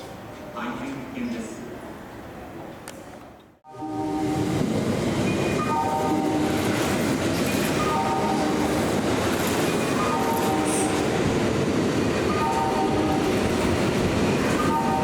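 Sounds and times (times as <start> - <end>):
train wheels rumbling on rail: 2.1 - 15.0.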